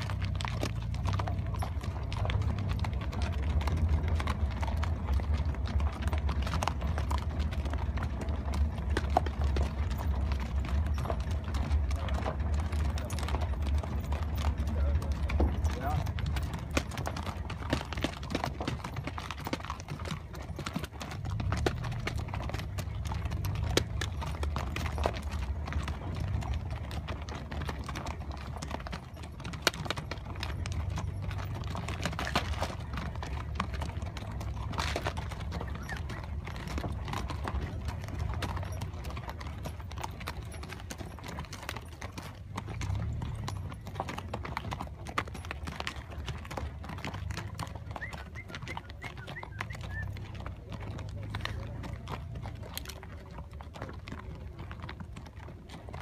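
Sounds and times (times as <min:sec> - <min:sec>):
horse hooves clip-clopping on sand: 0:00.0 - 0:56.0.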